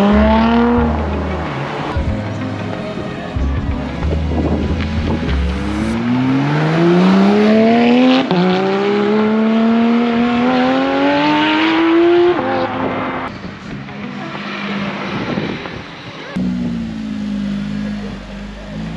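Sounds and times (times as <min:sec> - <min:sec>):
car engine accelerating hard: 0:00.0 - 0:18.9.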